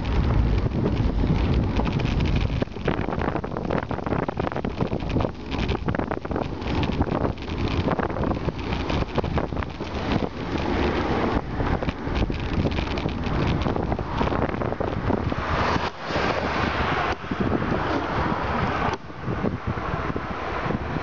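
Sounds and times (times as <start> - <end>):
bicycle knocks and rattles: 0.0 - 19.1
wind buffeting microphone: 0.0 - 21.0.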